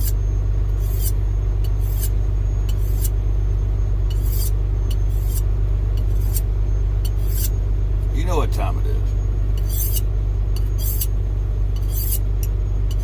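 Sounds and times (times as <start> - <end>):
oven humming: 0.0 - 13.0.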